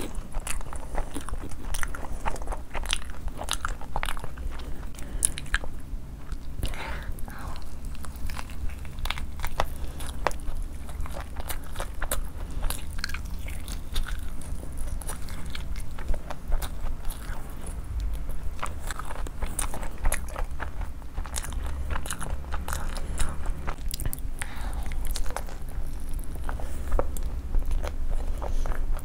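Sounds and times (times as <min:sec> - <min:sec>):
person chewing crunchy food: 0:00.0 - 0:29.0
steady low hum: 0:00.0 - 0:29.0.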